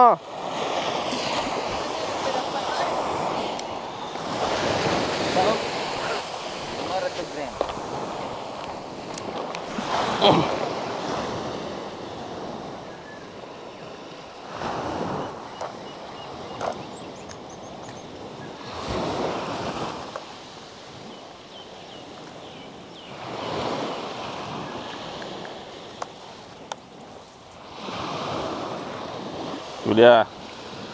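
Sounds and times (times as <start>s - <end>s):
waves breaking on beach: 0.0s - 30.9s.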